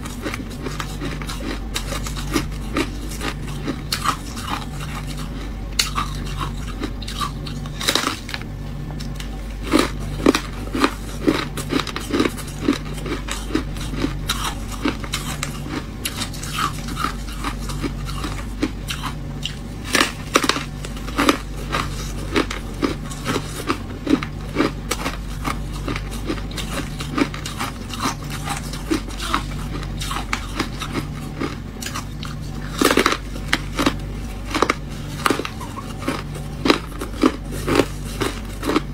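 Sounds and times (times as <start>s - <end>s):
frost crunching being chewed: 0.0s - 38.9s.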